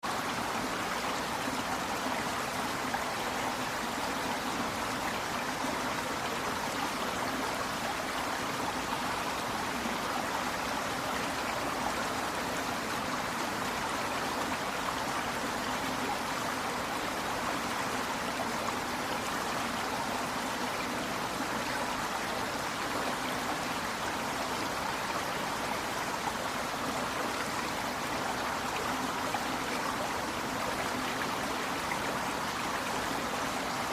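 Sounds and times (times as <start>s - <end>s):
river water flowing over rocks: 0.0s - 33.9s.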